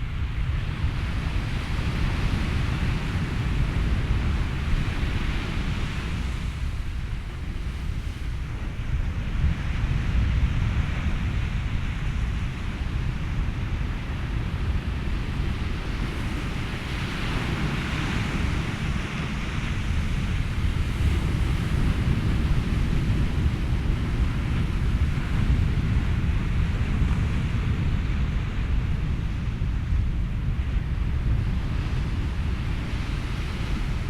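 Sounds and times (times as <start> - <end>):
low rumble of wind: 0.0 - 34.0
ocean surf washing: 0.0 - 34.0.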